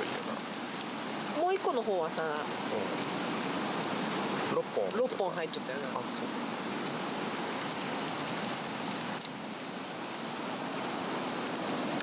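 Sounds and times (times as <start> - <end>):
faint fire crackles: 0.0 - 12.0
log fire rushing flame: 0.0 - 12.0.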